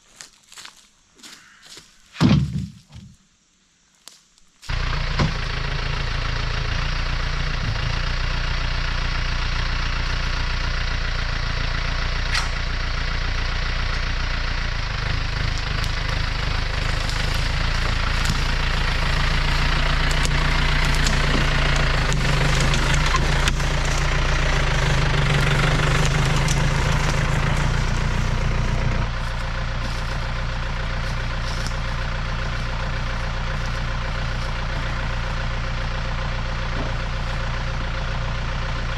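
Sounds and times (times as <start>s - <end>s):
tractor diesel engine running: 4.6s - 38.9s.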